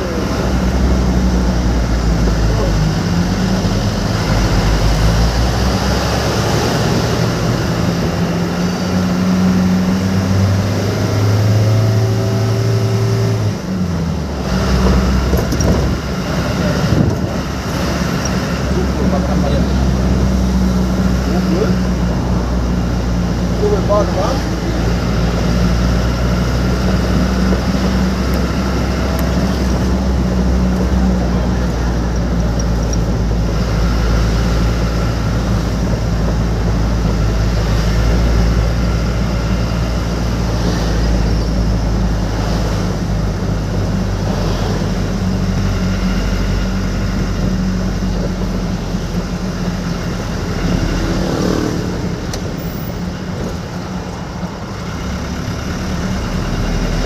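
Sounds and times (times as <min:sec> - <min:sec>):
road noise hiss: 0:00.0 - 0:57.0
vehicle engine running: 0:00.0 - 0:57.0.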